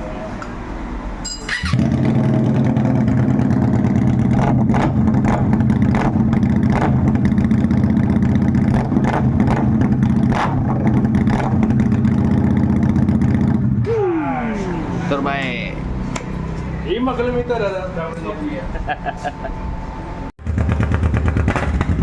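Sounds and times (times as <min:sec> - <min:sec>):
motorcycle engine idling: 0:01.4 - 0:17.5, 0:20.4 - 0:22.0.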